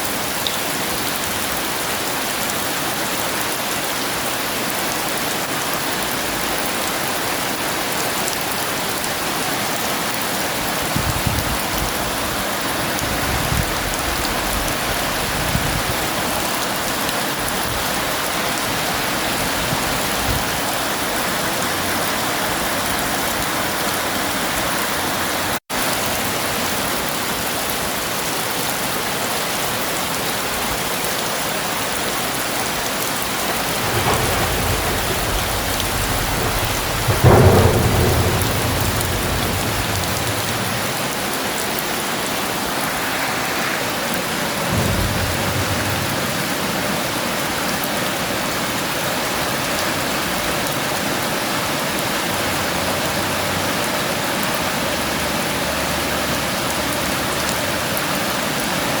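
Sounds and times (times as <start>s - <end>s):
thunder rumbling and cracking: 0.0s - 28.4s, 29.9s - 59.0s
heavy rain: 0.0s - 59.0s.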